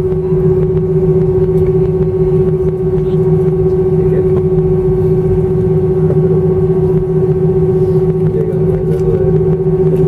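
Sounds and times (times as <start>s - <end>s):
jet engines droning hum: 0.0s - 10.0s.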